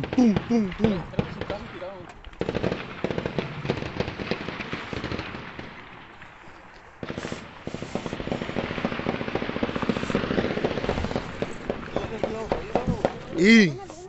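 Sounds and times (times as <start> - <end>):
intense gunfire: 0.0 - 6.4, 7.0 - 13.6.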